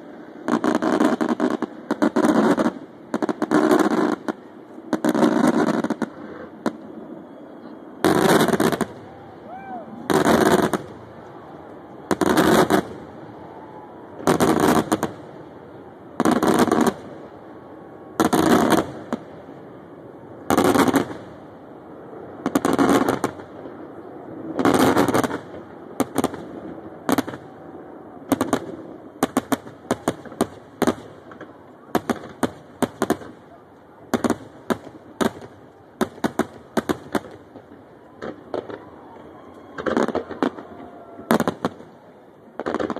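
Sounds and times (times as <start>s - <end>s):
fireworks bursting with crackle: 0.0s - 42.9s.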